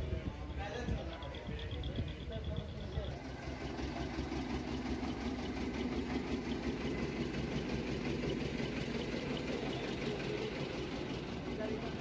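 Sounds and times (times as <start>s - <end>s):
toy train engine idling: 0.0s - 12.0s.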